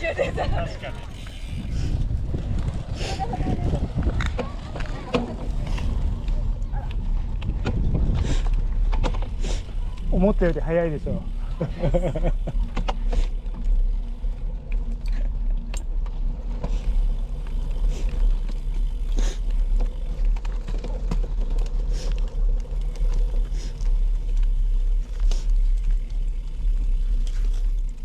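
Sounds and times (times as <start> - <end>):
inline skate wheels rolling: 0.0 - 28.0.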